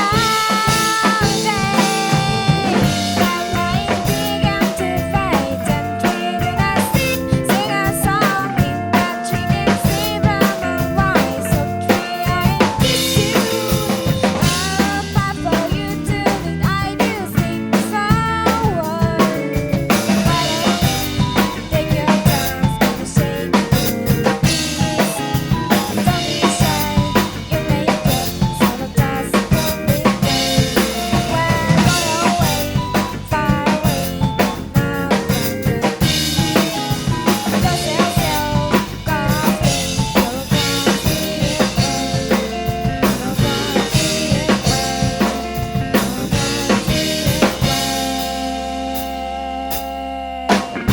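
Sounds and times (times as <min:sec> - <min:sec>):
acoustic drum kit playing: 0:00.0 - 0:50.9
pop backing track: 0:00.0 - 0:50.9.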